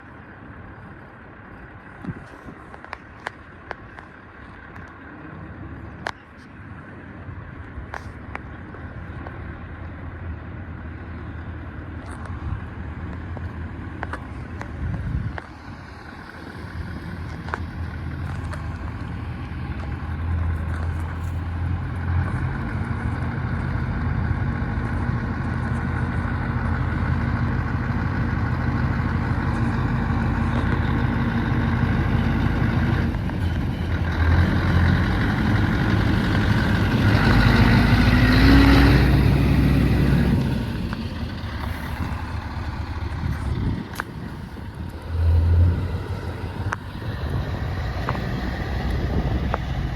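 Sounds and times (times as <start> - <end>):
truck engine drone passing: 0.0 - 49.9.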